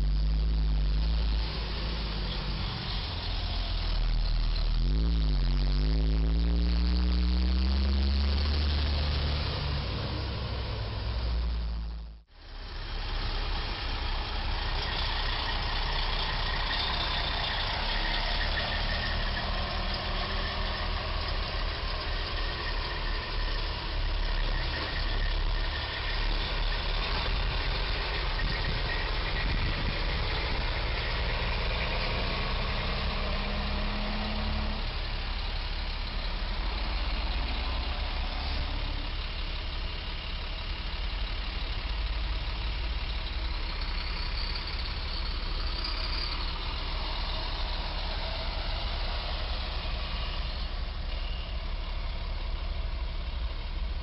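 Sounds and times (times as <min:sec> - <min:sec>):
engine drone: 0:00.0 - 0:54.0
traffic driving past: 0:00.9 - 0:54.0.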